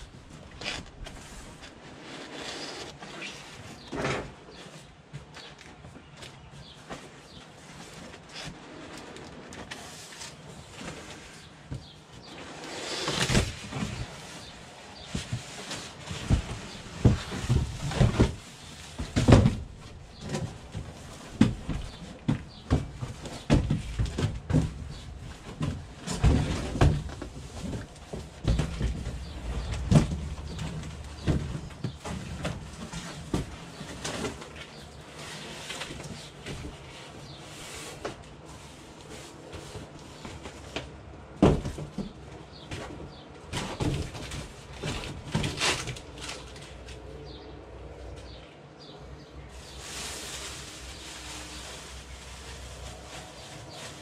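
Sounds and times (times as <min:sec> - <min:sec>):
knocks thumps and scrapes unpacking: 0:00.1 - 0:47.0.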